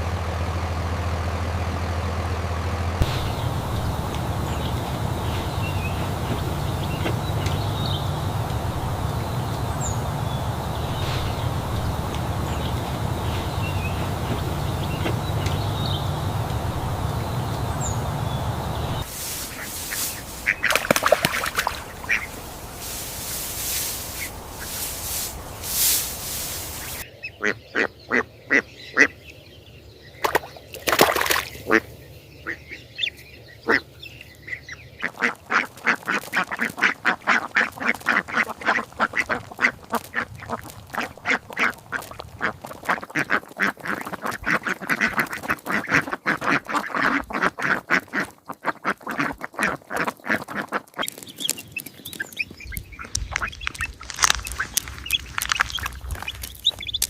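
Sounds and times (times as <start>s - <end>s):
ducks quacking: 3.0s - 29.2s, 30.2s - 51.1s, 52.2s - 57.0s.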